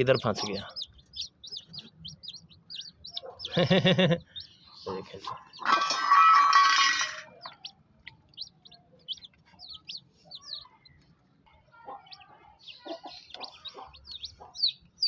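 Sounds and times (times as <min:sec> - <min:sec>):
chicks peeping: 0:00.0 - 0:05.7, 0:07.3 - 0:15.0
hen clucking: 0:00.0 - 0:15.0.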